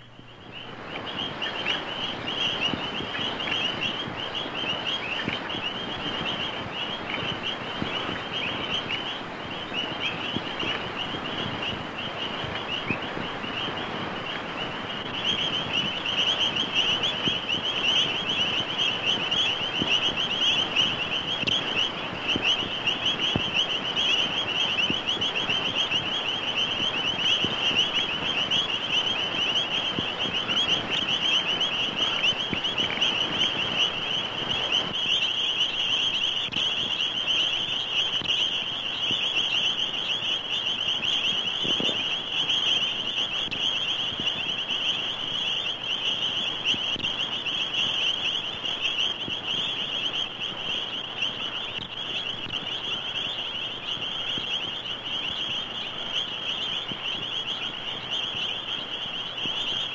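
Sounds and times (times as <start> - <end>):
toads and frogs trilling: 0.0 - 59.9.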